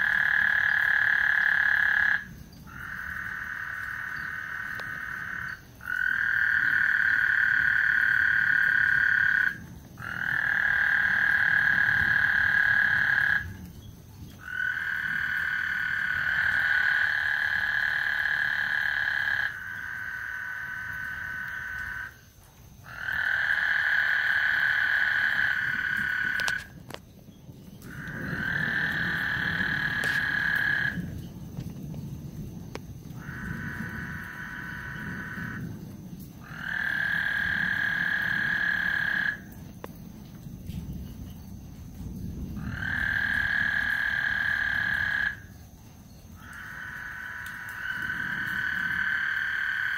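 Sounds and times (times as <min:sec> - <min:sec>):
frogs trilling: 0:00.0 - 0:49.9.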